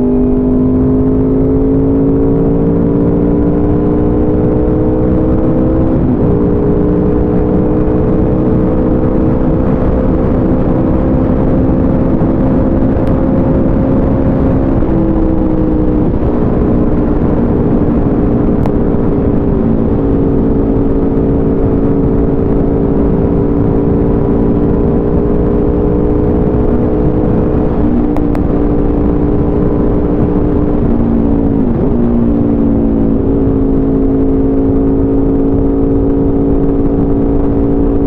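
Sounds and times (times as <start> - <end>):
motorcycle engine cruising: 0.0 - 38.0
wind rush on microphone: 0.0 - 38.0.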